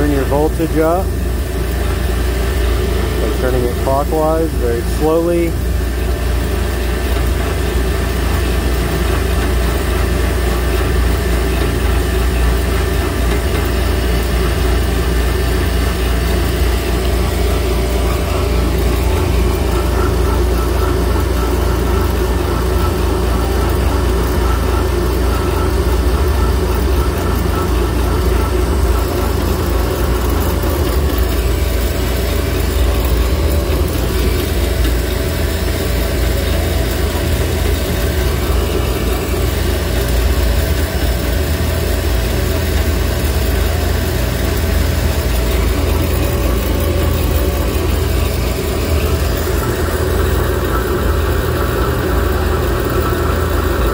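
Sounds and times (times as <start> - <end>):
alternator test bench drone: 0.0 - 53.9.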